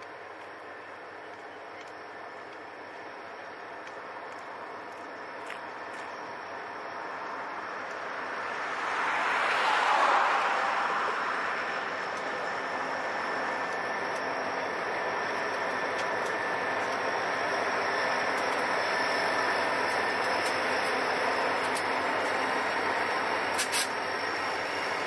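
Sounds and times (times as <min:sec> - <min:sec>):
diesel locomotives: 0:00.0 - 0:25.0.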